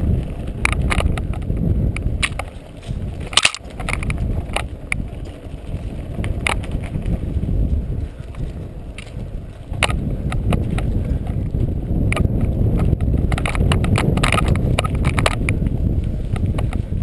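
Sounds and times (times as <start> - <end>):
bike clattering over bumps: 0.0 - 17.0
tyres rumbling on dirt: 0.0 - 17.0
wind on microphone: 0.0 - 17.0.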